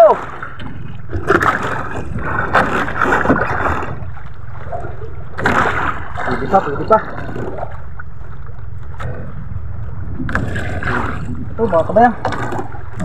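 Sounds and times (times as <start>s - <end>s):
wind and sea rumble: 0.0s - 13.0s.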